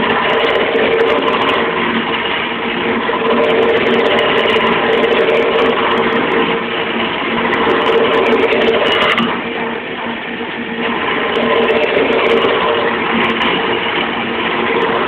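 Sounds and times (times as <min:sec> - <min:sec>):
chisel cutting spinning wood: 0:00.0 - 0:15.0
lathe motor hum: 0:00.0 - 0:15.0.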